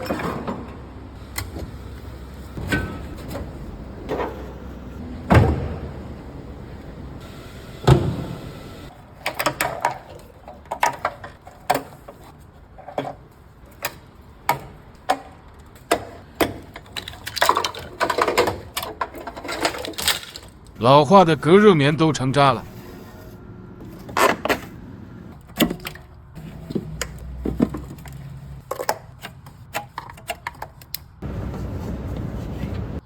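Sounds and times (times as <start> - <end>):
car parts and tools clunking: 0.0 - 20.8, 22.4 - 33.0.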